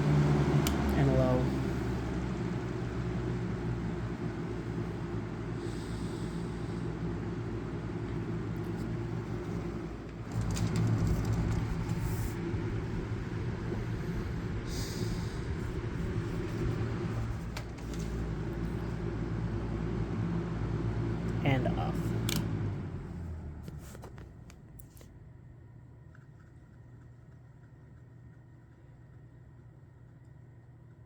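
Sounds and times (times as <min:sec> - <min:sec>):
box fan humming: 0:00.0 - 0:31.0
fan bearing noise: 0:00.0 - 0:31.0.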